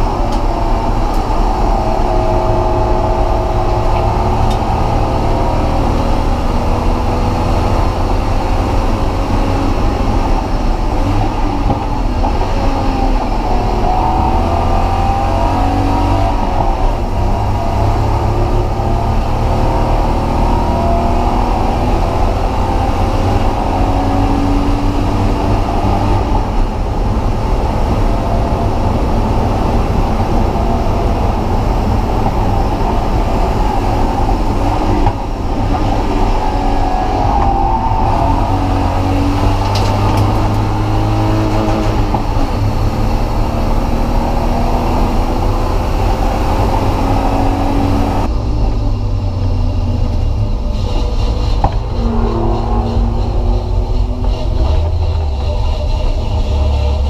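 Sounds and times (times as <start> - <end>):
car engine at speed: 0.0 - 57.0
road noise: 0.0 - 57.0.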